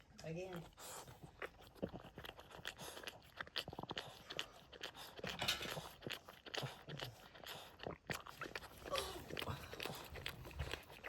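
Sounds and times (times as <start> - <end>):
dog licking wet smacks: 0.5 - 11.0.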